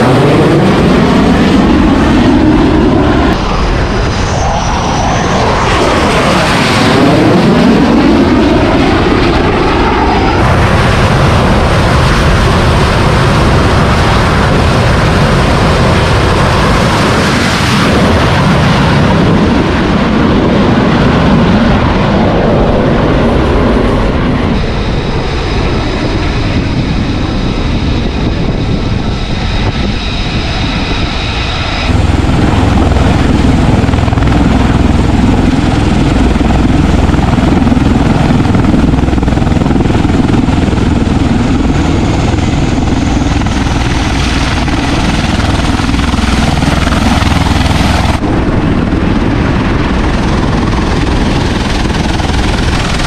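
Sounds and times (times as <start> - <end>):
jet engine whining: 0.0 - 53.0
lighter aircraft engine noise: 0.0 - 53.0
tiltrotor aircraft rotor throb: 0.0 - 53.0.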